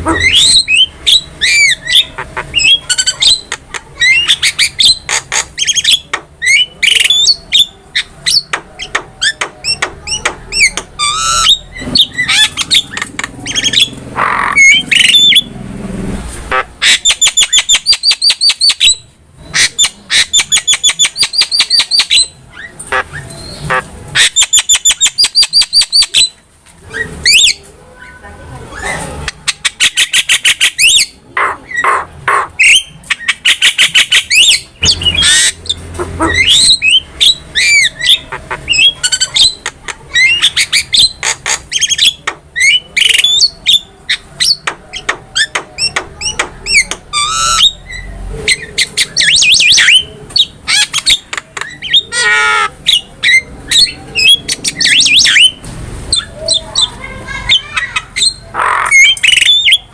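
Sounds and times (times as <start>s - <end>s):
myna bird singing: 0.0s - 15.6s, 16.5s - 27.6s, 28.7s - 59.9s.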